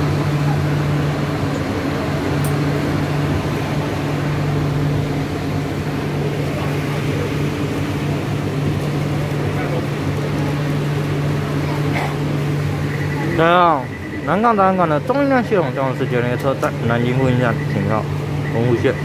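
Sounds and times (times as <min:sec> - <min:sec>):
metro car air-conditioning hum: 0:00.0 - 0:19.0.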